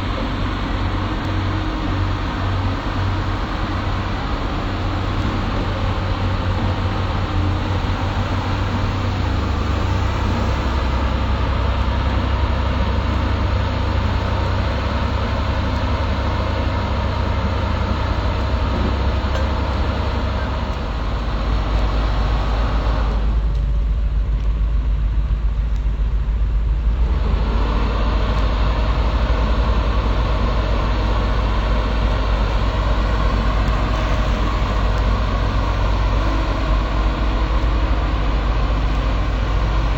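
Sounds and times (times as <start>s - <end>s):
excavator diesel engine drone: 0.0s - 39.9s.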